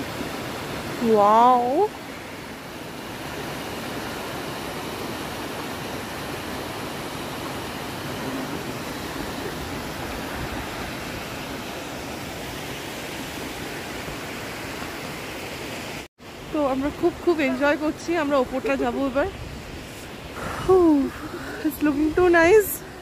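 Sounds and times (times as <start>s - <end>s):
waterfall and stream rushing: 0.0s - 23.0s.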